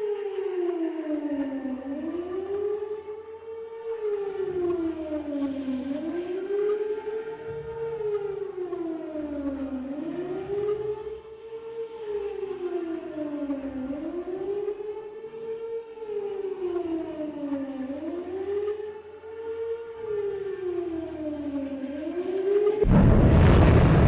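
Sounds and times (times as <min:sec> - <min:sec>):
air-raid siren wailing: 0:00.0 - 0:24.0.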